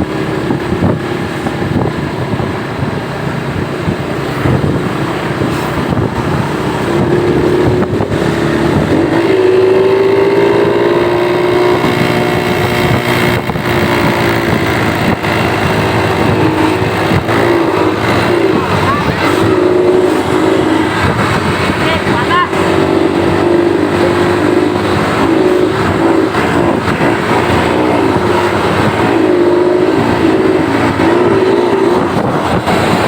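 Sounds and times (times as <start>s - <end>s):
bus engine: 0.0s - 33.0s
road rumble: 0.0s - 33.0s.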